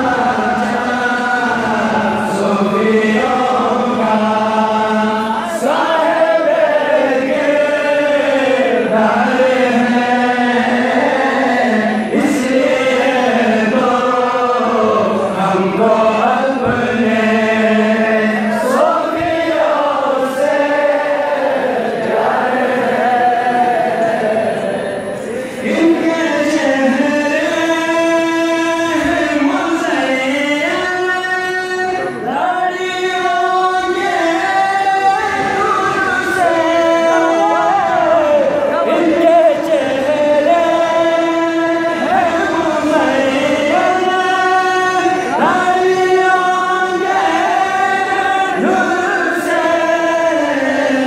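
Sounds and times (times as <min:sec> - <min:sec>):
man singing through loudspeakers: 0:00.0 - 0:51.0.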